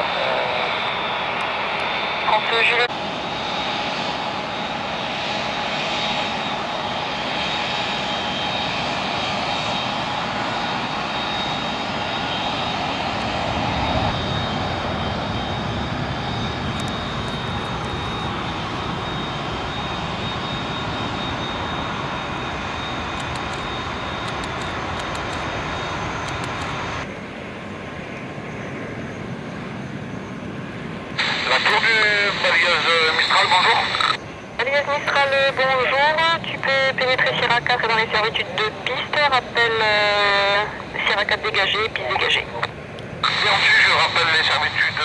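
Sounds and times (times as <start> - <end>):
jet engines whining: 0.0 - 45.0.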